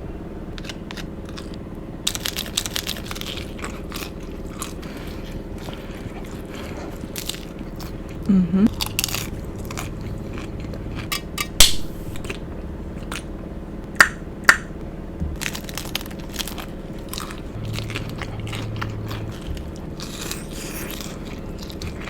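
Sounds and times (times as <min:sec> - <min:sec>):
steady low hum: 0:00.0 - 0:22.0
taco crunching and chewing: 0:00.4 - 0:22.0.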